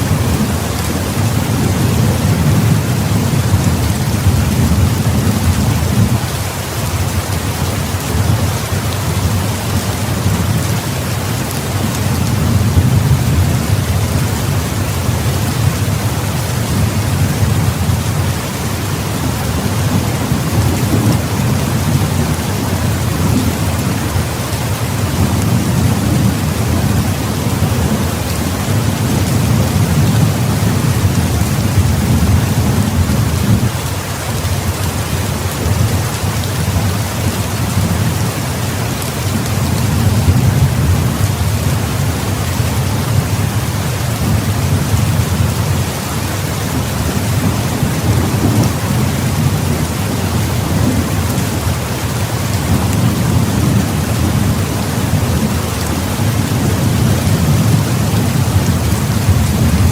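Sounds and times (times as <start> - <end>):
low rolling thunder: 0.0 - 6.4, 8.1 - 33.8, 39.2 - 59.9
heavy rain: 0.0 - 59.9.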